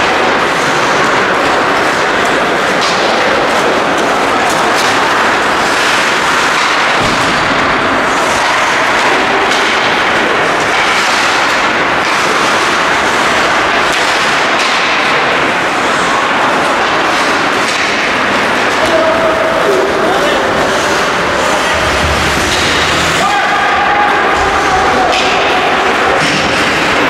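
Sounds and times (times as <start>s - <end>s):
ice hockey game din: 0.0s - 27.0s
skate scrapes and stick clacks: 0.0s - 27.0s.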